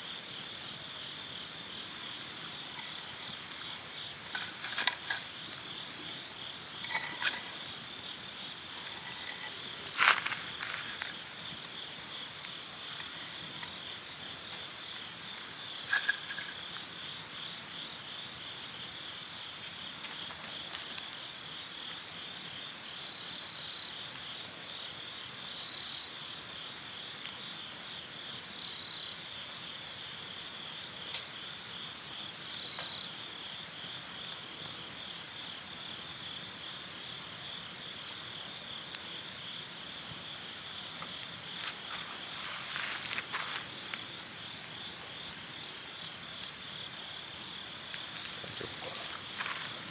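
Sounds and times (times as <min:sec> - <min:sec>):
insects chirping in a high trill: 0:00.0 - 0:49.9.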